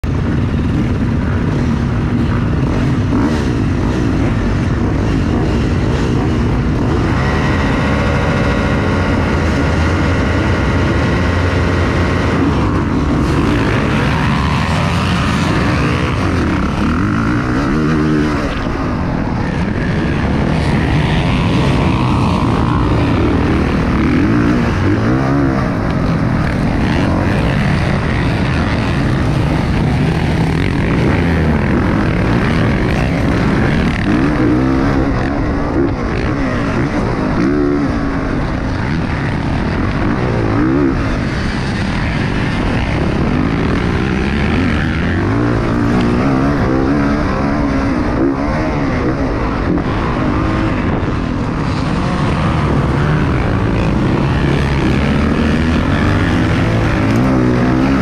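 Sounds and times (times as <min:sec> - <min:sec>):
other motocross bikes: 0:00.0 - 0:58.0
dirt bike engine revving: 0:00.1 - 0:58.0.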